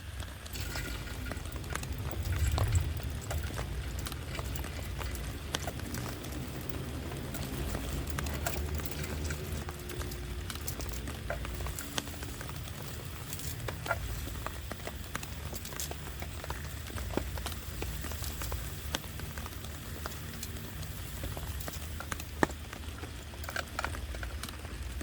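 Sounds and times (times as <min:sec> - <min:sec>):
heavy rain rumble: 0:00.0 - 0:25.0
raindrops pattering on tarp: 0:00.0 - 0:25.0.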